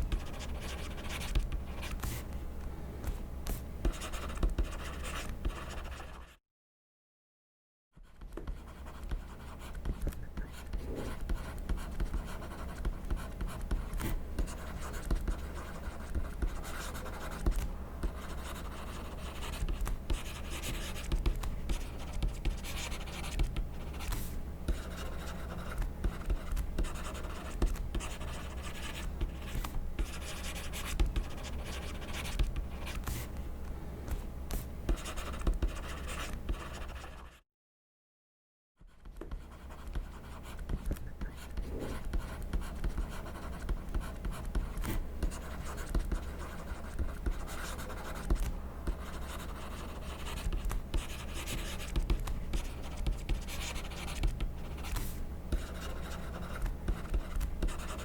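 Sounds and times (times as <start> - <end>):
pen scratching on paper: 0.0 - 2.4, 3.5 - 6.4, 8.1 - 33.4, 34.1 - 37.4, 38.9 - 58.0.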